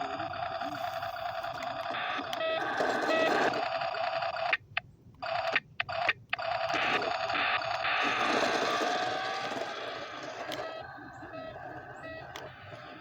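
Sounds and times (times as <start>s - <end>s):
toy buzzing engine sound: 0.0s - 4.4s, 6.5s - 13.0s.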